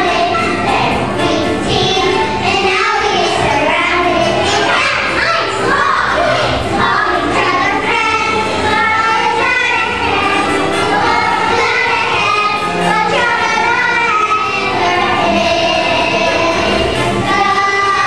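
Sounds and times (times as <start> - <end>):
children singing in chorus: 0.0 - 18.0.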